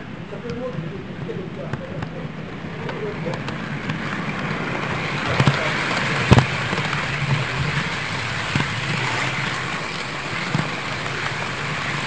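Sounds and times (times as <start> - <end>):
model trains rolling rattle: 0.0 - 12.0.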